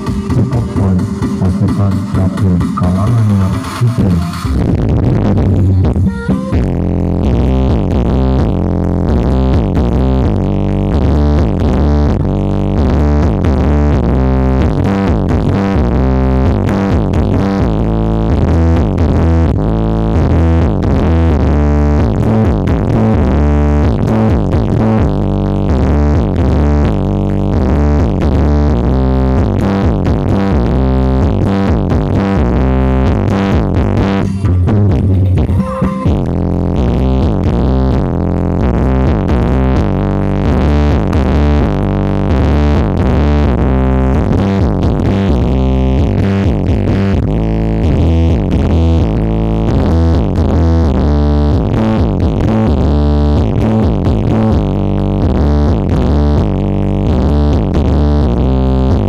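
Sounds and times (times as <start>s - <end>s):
electronic dance music with heavy bass: 0.0s - 59.0s.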